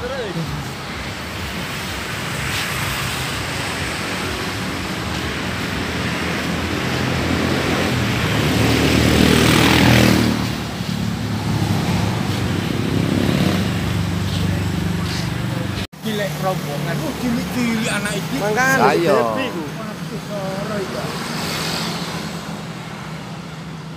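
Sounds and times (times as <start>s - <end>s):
street traffic: 0.0s - 23.9s
vehicle engine passing close: 2.4s - 22.7s.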